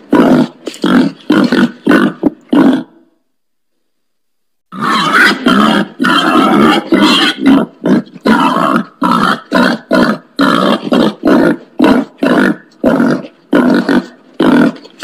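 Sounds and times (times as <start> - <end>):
wild pig grunting: 0.0 - 3.0, 4.7 - 15.0.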